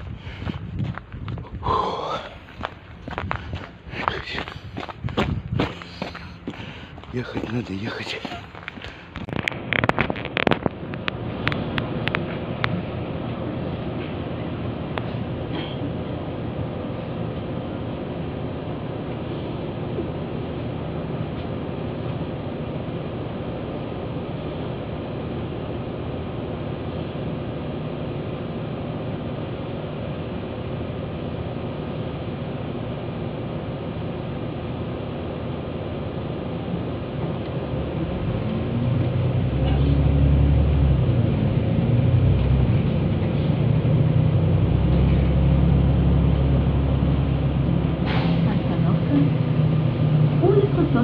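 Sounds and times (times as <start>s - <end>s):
vehicle cabin engine drone: 0.0s - 51.0s.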